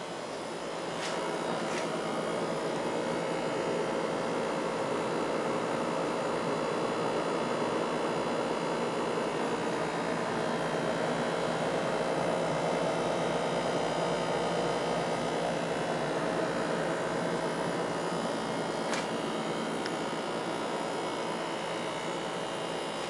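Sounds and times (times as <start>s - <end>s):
refrigerator humming: 0.0s - 23.0s.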